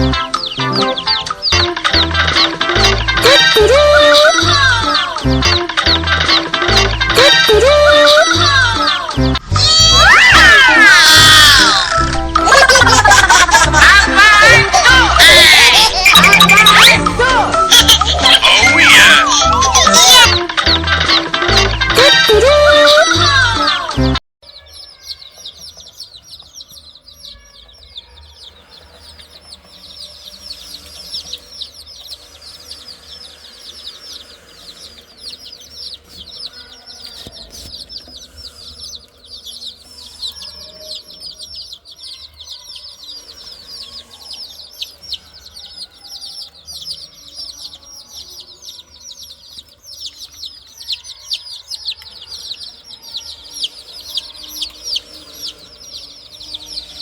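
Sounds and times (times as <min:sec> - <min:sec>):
baby chicks peeping: 0:00.0 - 0:57.0.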